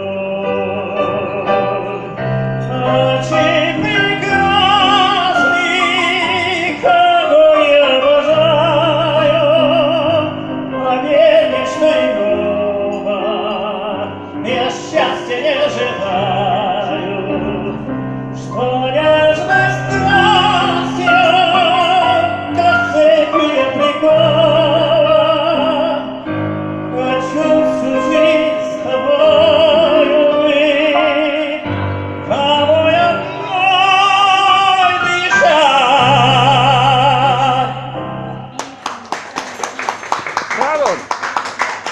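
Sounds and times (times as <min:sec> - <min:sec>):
person singing operatically: 0:00.0 - 0:26.2, 0:26.9 - 0:38.6
piano accompaniment: 0:00.0 - 0:41.9.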